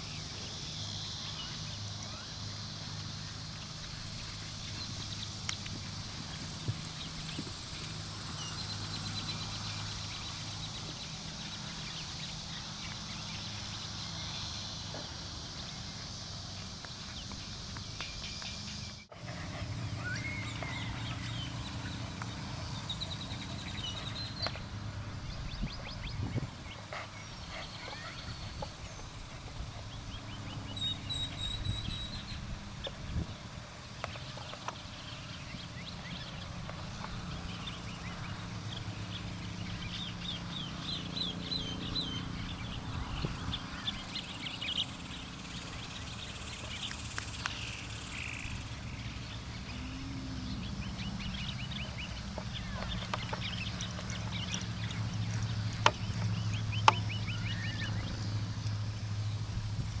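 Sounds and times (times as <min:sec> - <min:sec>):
birds chirping: 0:00.0 - 1:00.0.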